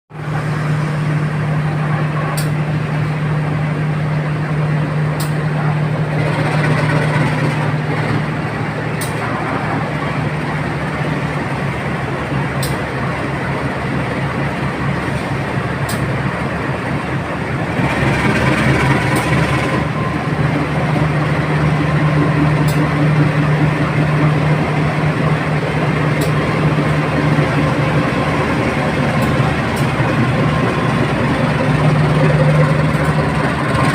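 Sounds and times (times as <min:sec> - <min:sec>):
diesel locomotive engine humming: 0:00.1 - 0:33.9
train rumble: 0:00.1 - 0:33.9.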